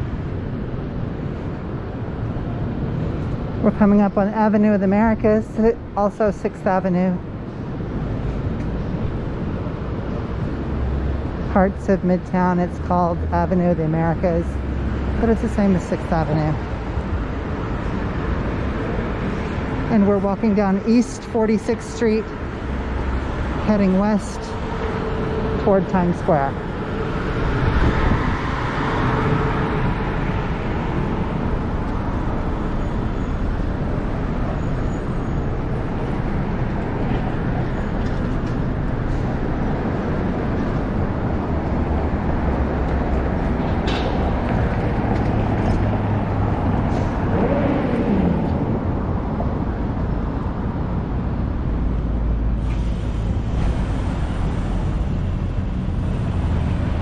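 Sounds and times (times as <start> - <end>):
city street traffic: 0.0 - 57.0.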